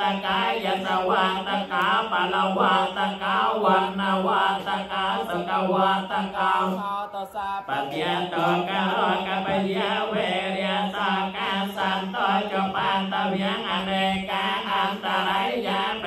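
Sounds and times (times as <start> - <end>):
monotone chanting: 0.0 - 16.0.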